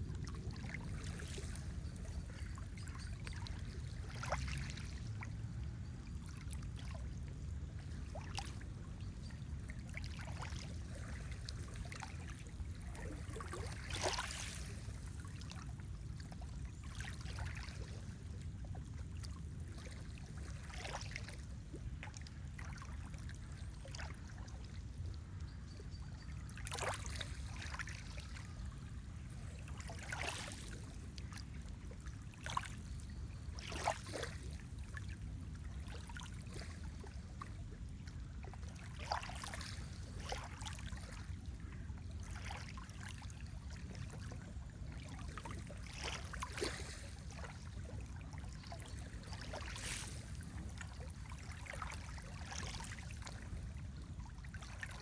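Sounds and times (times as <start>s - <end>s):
water lapping: 0.0s - 55.0s.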